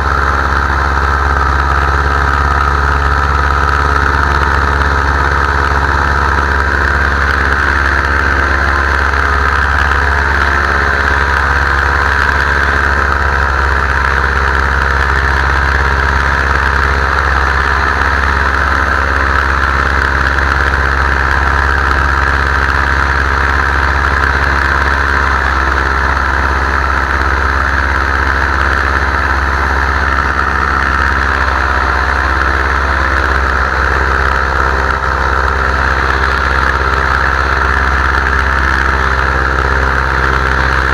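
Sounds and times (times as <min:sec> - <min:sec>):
paramotor engine drone: 0:00.0 - 0:40.9.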